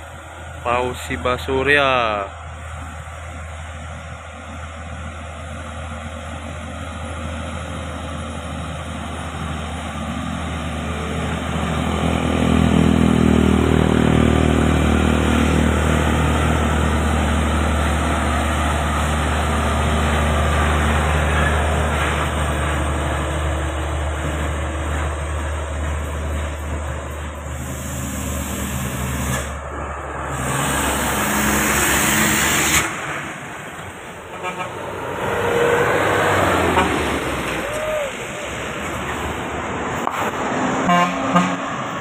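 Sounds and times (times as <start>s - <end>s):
truck diesel engine driving past: 0.0s - 42.0s.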